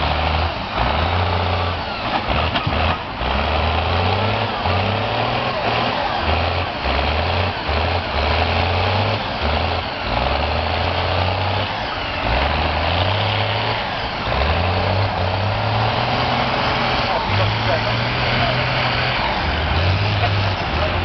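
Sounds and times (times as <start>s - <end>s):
tractor engine working hard: 0.0s - 21.0s.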